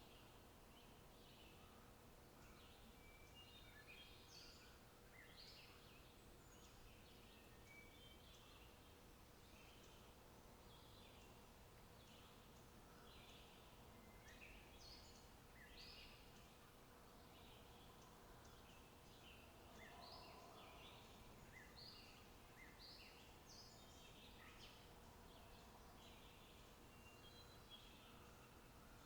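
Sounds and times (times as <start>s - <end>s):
low background hiss: 0.0s - 29.0s.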